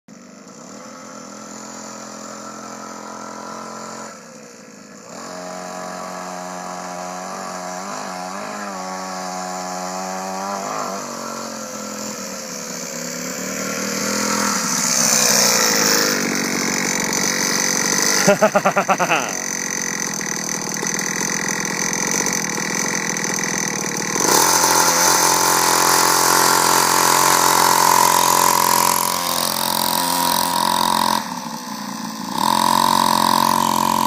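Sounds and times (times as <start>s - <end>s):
small motorbike engine revving: 0.1s - 34.0s.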